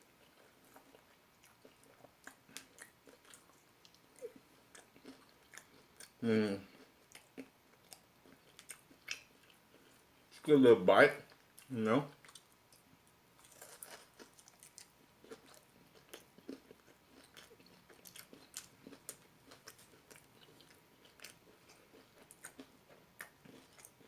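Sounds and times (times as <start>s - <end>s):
person chewing: 0.2s - 10.0s, 11.3s - 24.0s.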